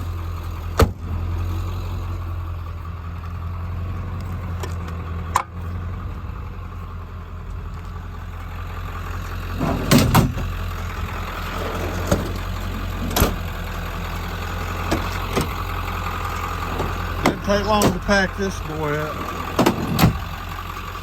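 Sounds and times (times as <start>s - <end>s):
clunks: 0.0s - 1.4s, 3.1s - 5.8s, 7.4s - 21.0s
diesel engine idling: 0.0s - 21.0s.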